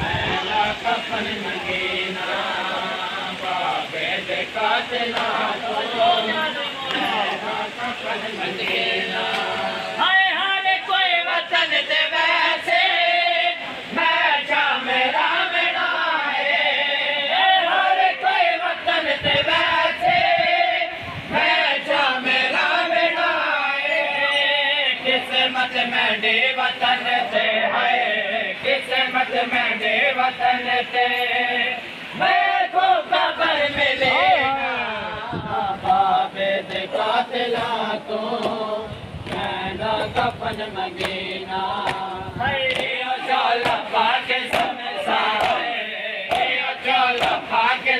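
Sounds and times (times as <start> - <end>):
men chanting in unison: 0.0 - 47.9.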